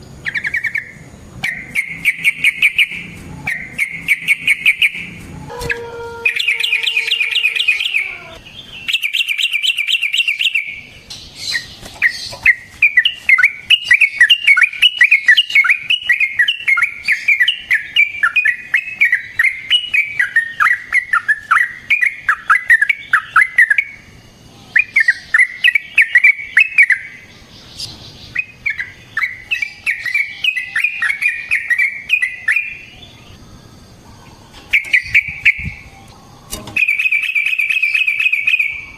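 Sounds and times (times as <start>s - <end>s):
bird singing warbling trills: 0.0s - 38.9s.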